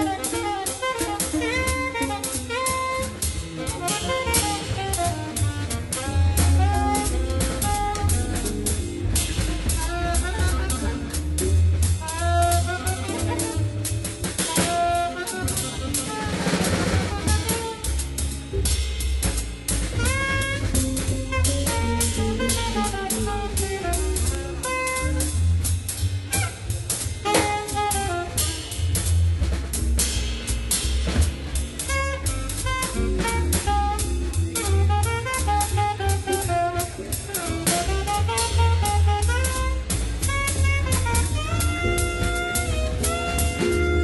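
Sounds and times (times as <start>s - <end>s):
drum kit beat: 0.0s - 44.0s
sliding jazz melody: 0.0s - 44.0s.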